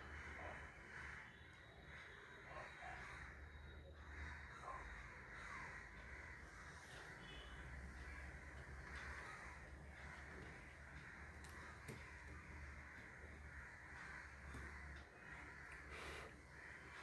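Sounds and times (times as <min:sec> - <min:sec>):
crows cawing faintly: 0:00.0 - 0:17.0.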